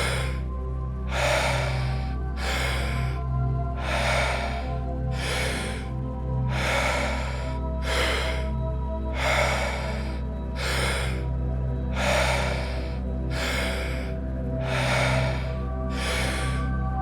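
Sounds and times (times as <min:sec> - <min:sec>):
ambient music drone: 0:00.0 - 0:17.0
deep forceful breathing: 0:00.0 - 0:17.0.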